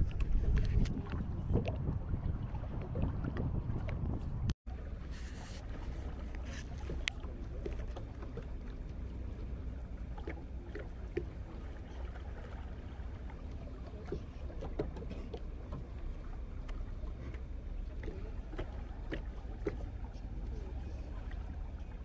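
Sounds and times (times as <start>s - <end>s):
boat low rumble: 0.0s - 22.0s.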